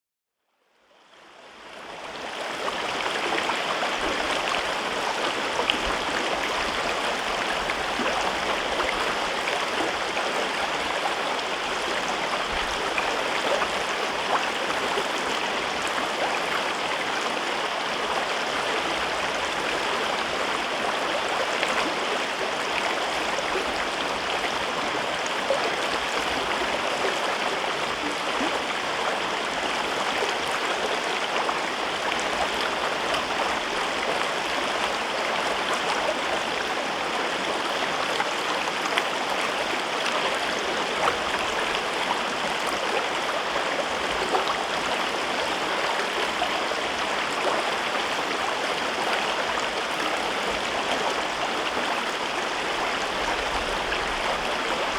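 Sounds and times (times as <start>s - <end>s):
river water rushing: 1.9s - 54.9s.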